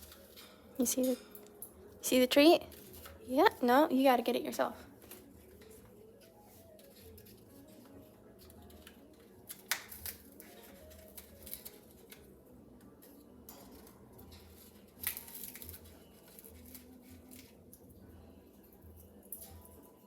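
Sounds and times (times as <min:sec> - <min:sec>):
faint background music: 0:00.0 - 0:20.0.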